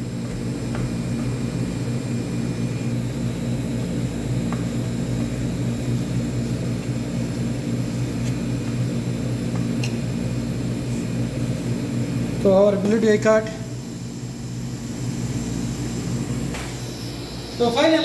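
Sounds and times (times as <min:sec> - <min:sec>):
ventilation fan drone: 0:00.0 - 0:18.0.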